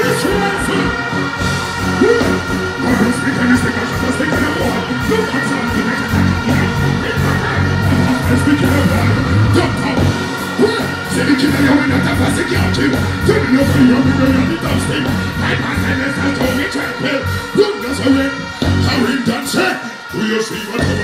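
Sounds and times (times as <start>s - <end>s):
dancehall music over sound system: 0.0s - 21.0s.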